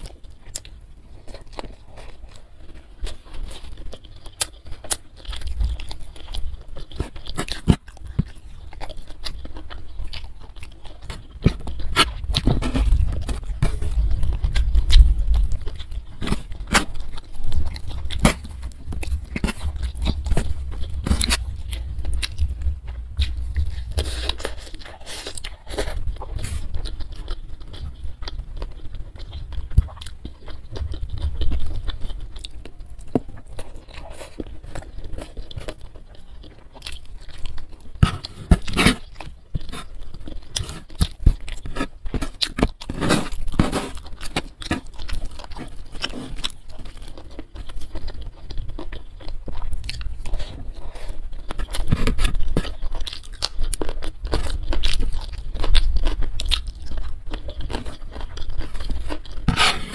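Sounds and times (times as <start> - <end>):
close chewing with mouth smacks: 0.0 - 59.9.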